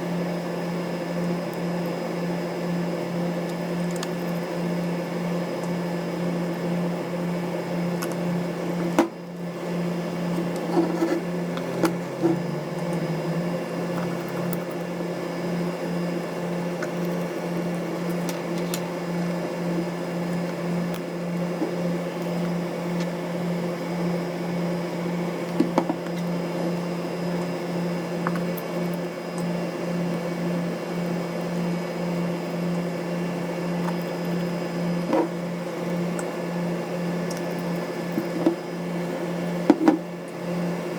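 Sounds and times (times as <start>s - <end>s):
machine hum: 0.0s - 40.9s.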